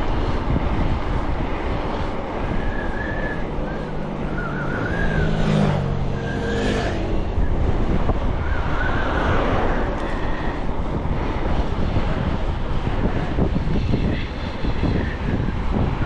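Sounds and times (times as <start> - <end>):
passing vehicle engine hum: 0.0 - 16.0
wind rushing over microphone: 0.0 - 16.0.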